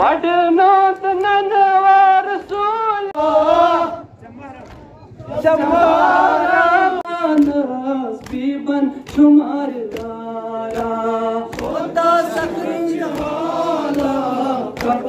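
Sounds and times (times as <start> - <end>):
group of men chanting: 0.0 - 15.0
rhythmic chest beating: 0.0 - 15.0.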